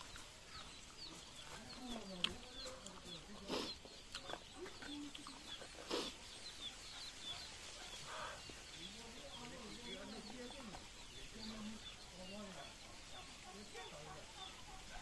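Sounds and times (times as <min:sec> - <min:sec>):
chickens clucking: 0:00.0 - 0:15.0
small birds chirping: 0:00.0 - 0:15.0.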